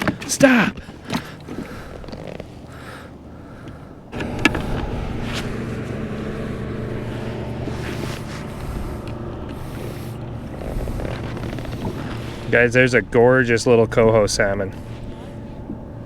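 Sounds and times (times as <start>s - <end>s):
motor running: 1.2s - 16.0s.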